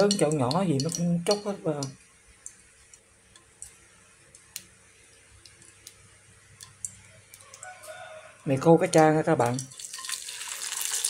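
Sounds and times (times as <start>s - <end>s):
oil popping in frying pan: 0.0s - 8.0s, 9.2s - 11.0s.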